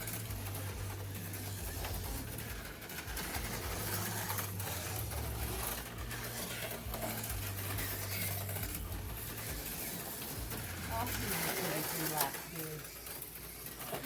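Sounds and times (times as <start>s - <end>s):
small electric motors whirring: 0.0s - 14.0s.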